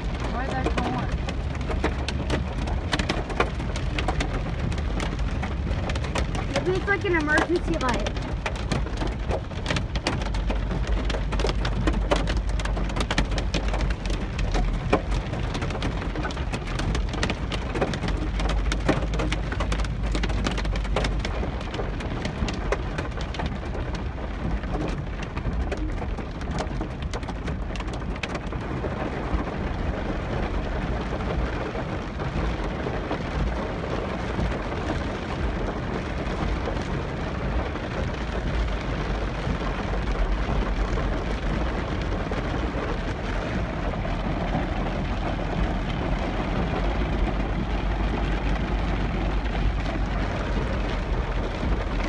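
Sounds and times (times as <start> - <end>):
hail ticking on car roof: 0.0 - 52.0
heavy rain on car: 0.0 - 52.0
low rumble from car: 0.0 - 52.0.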